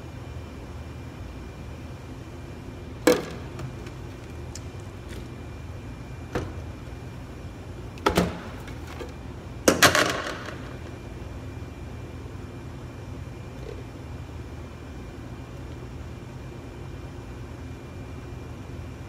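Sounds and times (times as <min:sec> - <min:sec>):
kitchen machinery hum: 0:00.0 - 0:19.0.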